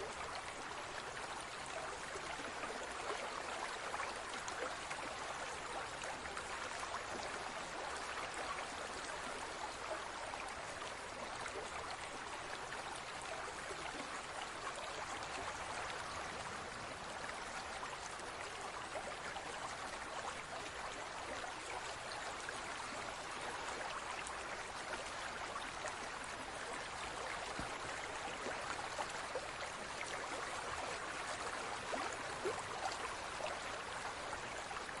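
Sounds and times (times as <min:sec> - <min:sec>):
aquarium water rushing and trickling: 0:00.0 - 0:35.0.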